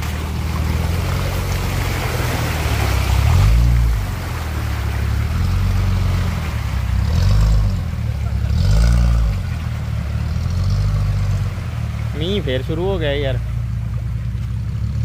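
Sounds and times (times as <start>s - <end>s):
car engine pulling: 0.0s - 15.0s
tyres churning and splashing: 0.0s - 15.0s.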